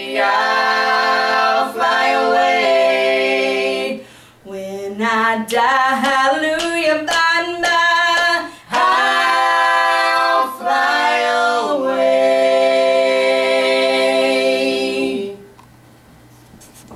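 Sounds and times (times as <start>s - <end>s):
vocal trio singing a chord: 0.0s - 15.5s.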